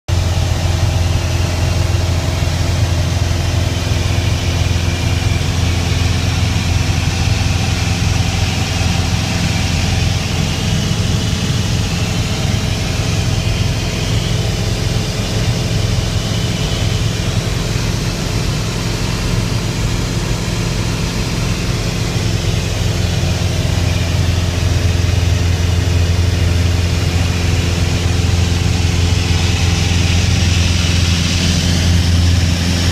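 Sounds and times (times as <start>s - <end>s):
aircraft engine cabin drone: 0.1s - 32.9s.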